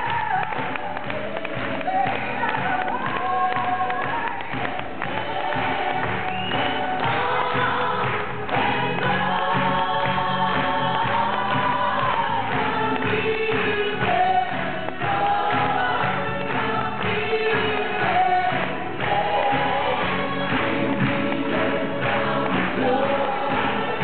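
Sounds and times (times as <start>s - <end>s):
voices singing together: 0.0s - 24.0s.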